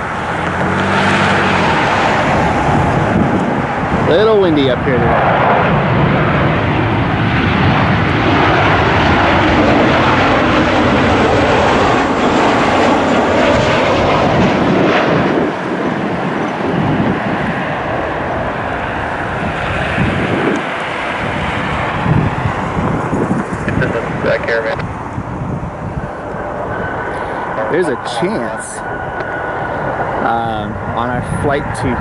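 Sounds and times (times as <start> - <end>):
jet engines roaring: 0.0 - 32.0
wind buffeting microphone: 0.0 - 32.0.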